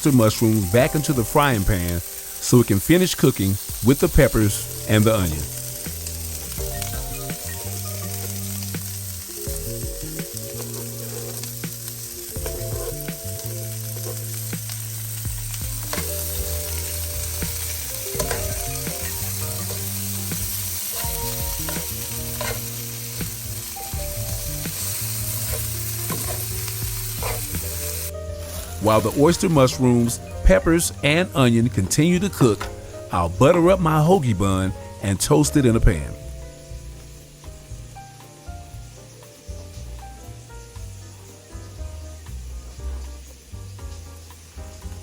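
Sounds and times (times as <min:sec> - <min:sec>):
low background music: 0:00.0 - 0:45.0
vegetables sizzling in frying pan: 0:00.0 - 0:45.0.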